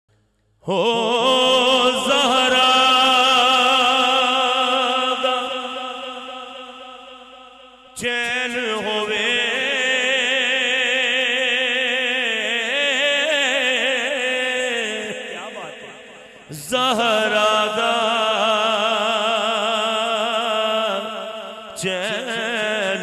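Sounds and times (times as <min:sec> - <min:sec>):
man singing long held notes: 0:00.6 - 0:06.4, 0:08.0 - 0:23.0.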